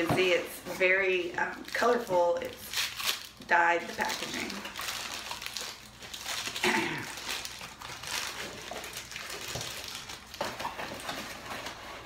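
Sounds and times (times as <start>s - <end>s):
wrapping rustling and crinkling: 0.0s - 12.0s.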